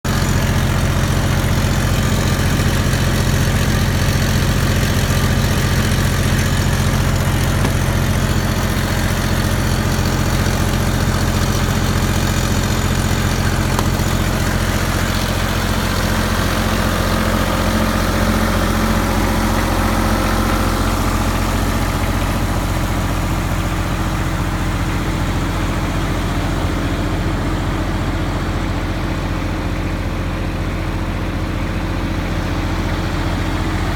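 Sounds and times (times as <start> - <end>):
diesel generator humming: 0.0 - 33.9.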